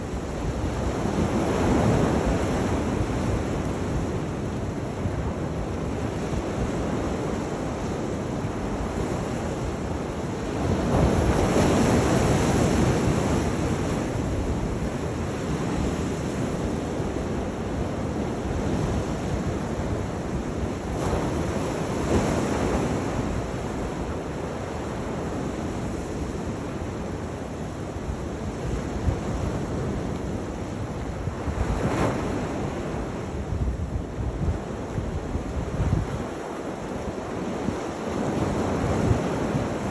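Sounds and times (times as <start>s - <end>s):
wind blowing across the microphone: 0.0s - 39.9s.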